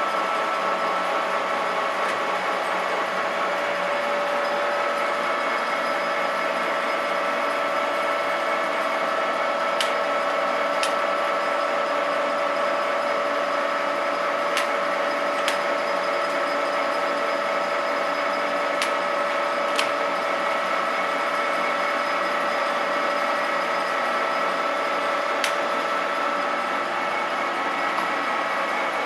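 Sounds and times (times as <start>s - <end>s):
lathe gearing whine: 0.0s - 29.0s.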